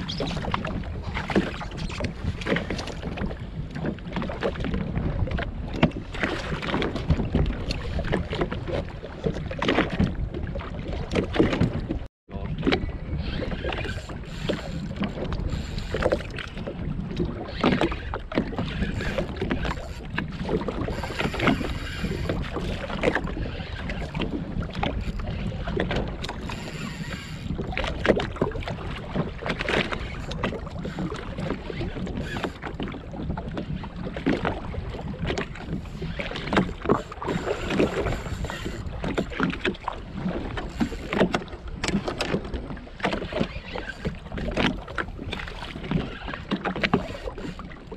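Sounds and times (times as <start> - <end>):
water splashing against hull: 0.0 - 47.9
wind buffeting microphone: 0.0 - 47.9.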